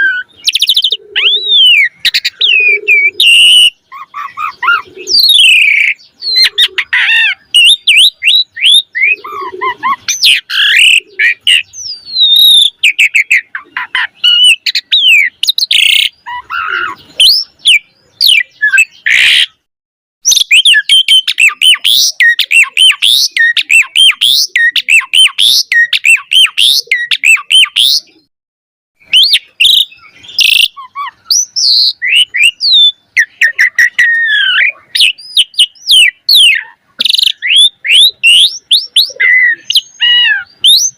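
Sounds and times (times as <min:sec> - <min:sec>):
starling singing: 0:00.0 - 0:28.3, 0:29.0 - 0:40.9.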